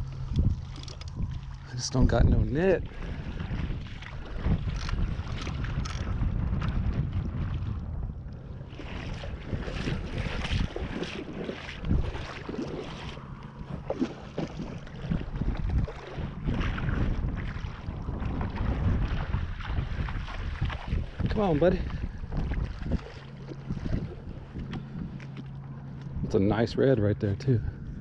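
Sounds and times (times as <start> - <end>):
low steady hum: 0.0 - 28.0
wind buffeting microphone: 0.0 - 28.0.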